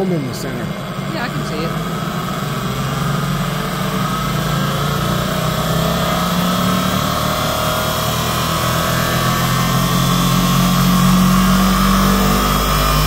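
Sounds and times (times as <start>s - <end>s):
machine whirring rising in pitch: 0.0s - 13.0s.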